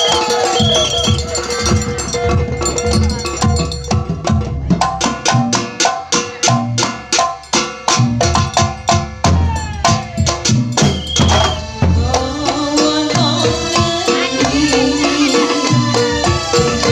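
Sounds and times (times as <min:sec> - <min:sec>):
frame drums bass strokes: 0:00.0 - 0:16.9.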